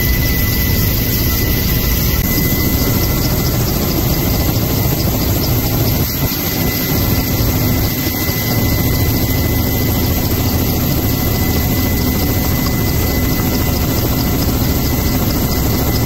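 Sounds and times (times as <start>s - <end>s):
faint steady whine: 0.0s - 16.0s
helicopter engine and rotor drone: 0.0s - 16.0s.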